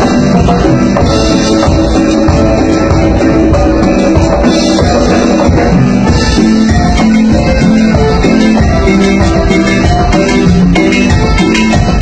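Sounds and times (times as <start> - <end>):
latin band playing: 0.0 - 12.0
timbales and hand percussion: 0.0 - 12.0.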